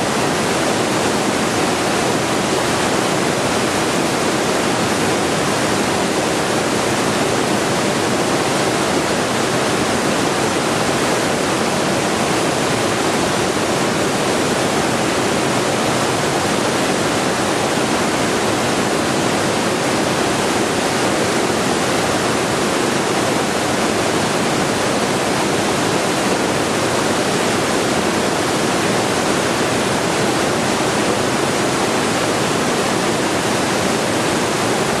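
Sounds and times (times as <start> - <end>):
white noise hiss: 0.0 - 35.0.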